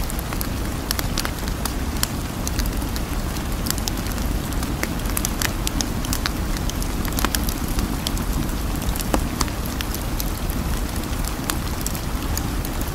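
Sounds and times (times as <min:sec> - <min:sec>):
steady rain: 0:00.0 - 0:12.9.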